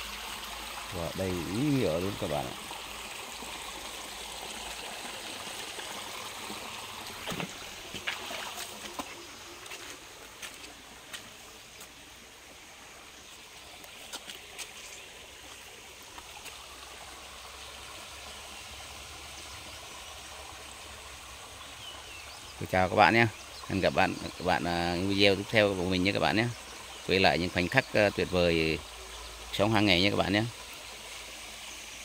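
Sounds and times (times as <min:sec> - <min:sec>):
creek trickling over stones: 0:00.0 - 0:32.0.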